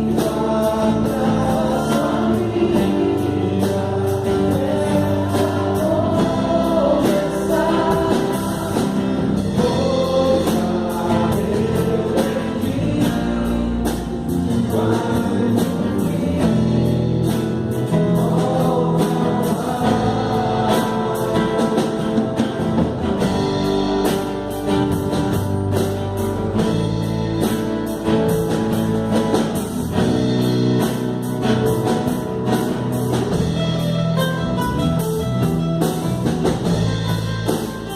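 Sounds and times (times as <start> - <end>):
group singing gospel song: 0.0 - 33.4
acoustic guitars: 0.0 - 37.9.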